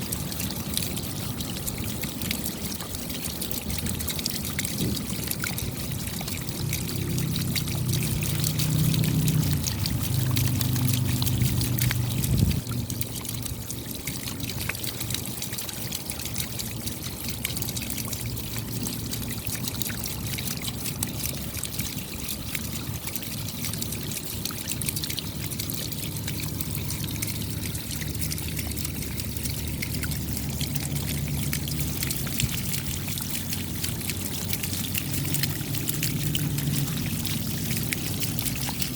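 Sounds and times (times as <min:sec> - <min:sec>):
rain pattering: 0:00.0 - 0:38.9
water trickling and pouring: 0:00.0 - 0:38.9.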